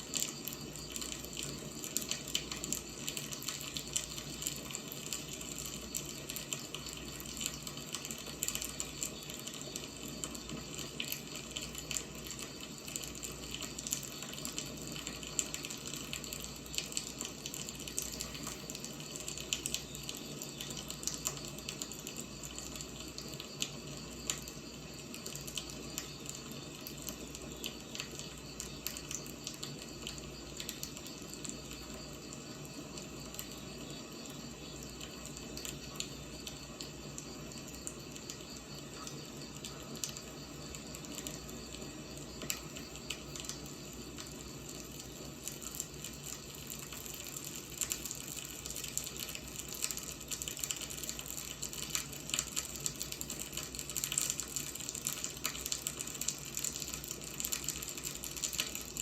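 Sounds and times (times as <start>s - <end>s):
firewood burning and crackling: 0.0s - 59.0s.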